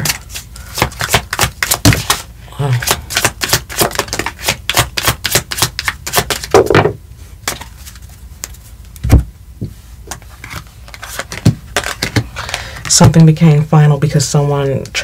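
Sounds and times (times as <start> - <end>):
cards being shuffled: 0.0 - 9.2, 10.1 - 12.9.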